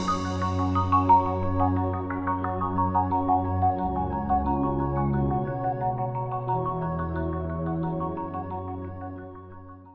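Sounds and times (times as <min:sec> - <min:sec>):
soft background music: 0:00.0 - 0:09.9.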